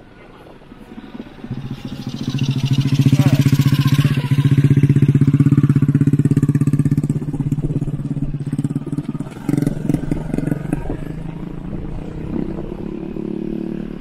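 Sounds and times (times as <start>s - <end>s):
small motorcycle engine: 0.9s - 14.0s.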